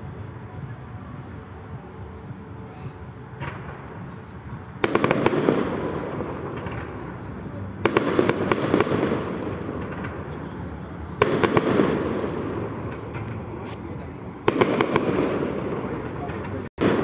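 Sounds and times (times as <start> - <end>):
fireworks bursting: 2.8 - 17.0.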